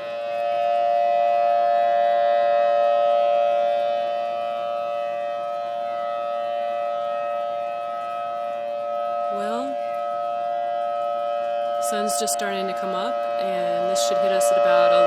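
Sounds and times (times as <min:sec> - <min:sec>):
steady warning siren: 0:00.0 - 0:15.0.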